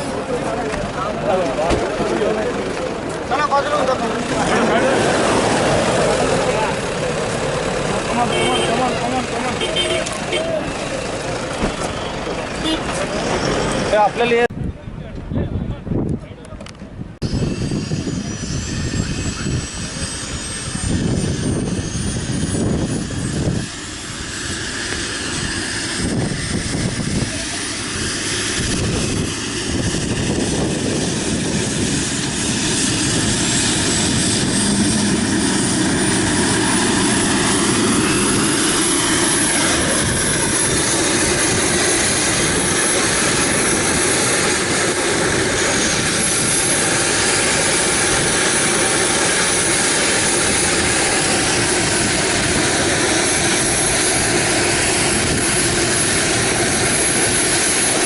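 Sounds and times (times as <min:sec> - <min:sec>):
helicopter rotor running: 0:00.0 - 0:14.5, 0:17.2 - 0:58.0
helicopter turbine whine: 0:00.0 - 0:14.5, 0:17.0 - 0:58.0.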